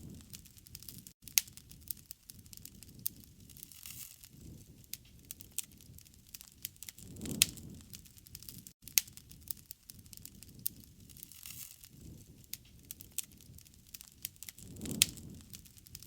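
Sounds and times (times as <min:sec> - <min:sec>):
campfire crackling and popping: 0:00.0 - 0:16.0
low rumble of flames: 0:00.0 - 0:16.0.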